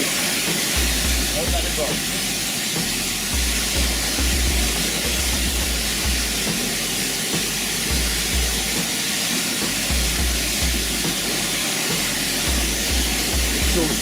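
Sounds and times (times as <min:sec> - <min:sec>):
waterfall rushing: 0:00.0 - 0:14.0
pulsing music bass line: 0:00.6 - 0:08.9, 0:09.6 - 0:14.0.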